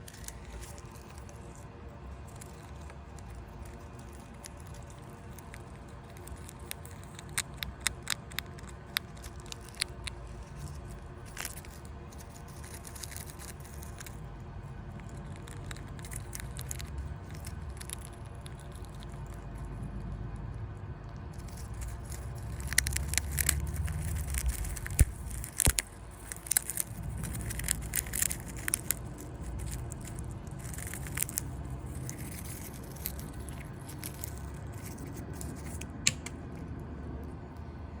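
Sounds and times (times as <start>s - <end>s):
low steady rumble: 0.0s - 38.0s
rodent gnawing and crunching food: 0.0s - 38.0s.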